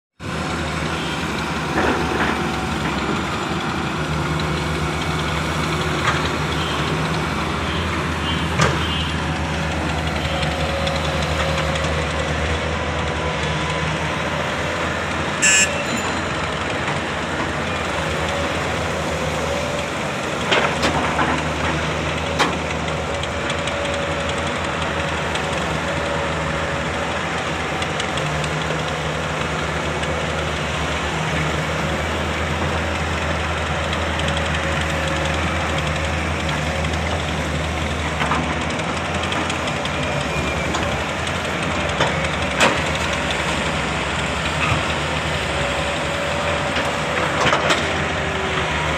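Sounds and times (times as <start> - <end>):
excavator diesel engine running: 0.2 - 48.9.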